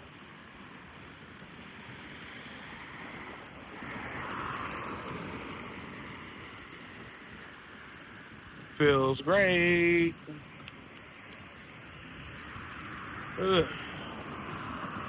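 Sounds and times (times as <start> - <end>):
car passing: 0.0 - 15.0
wind and road noise hiss: 0.0 - 15.0.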